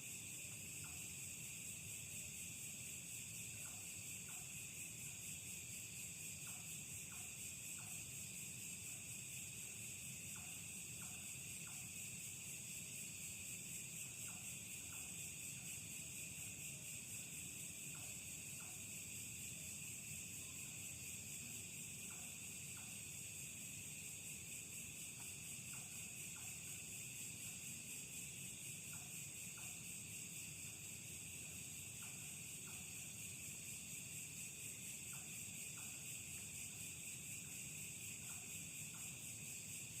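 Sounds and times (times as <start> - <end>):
faint short insect calls: 0.0 - 40.0.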